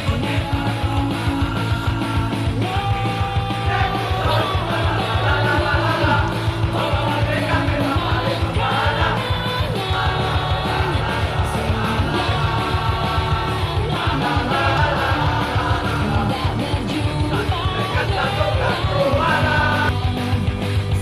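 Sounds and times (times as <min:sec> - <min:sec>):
rock music with singing: 0:00.0 - 0:21.0.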